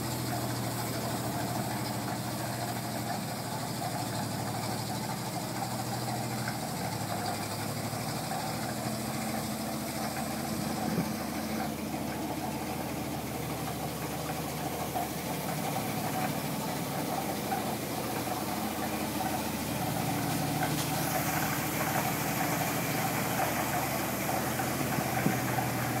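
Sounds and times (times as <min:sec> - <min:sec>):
steady hiss: 0:00.0 - 0:26.0
truck engine at low revs: 0:00.0 - 0:26.0.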